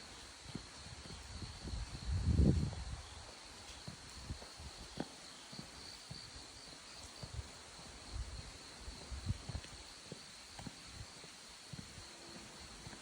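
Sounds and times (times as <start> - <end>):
footsteps on forest path: 0.0 - 13.0.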